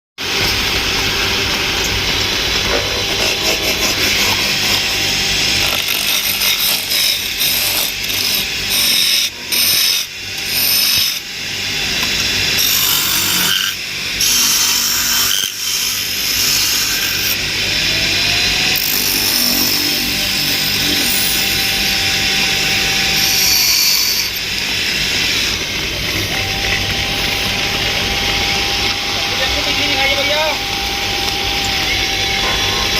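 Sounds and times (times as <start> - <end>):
power woodworking machine cutting wood: 0.2 - 32.9.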